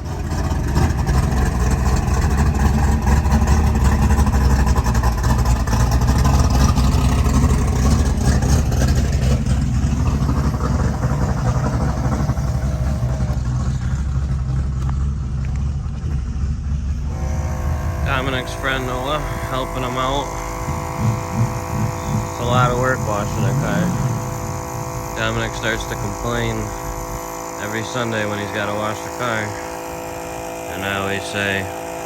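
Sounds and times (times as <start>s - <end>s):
engine running loudly: 0.0s - 32.0s.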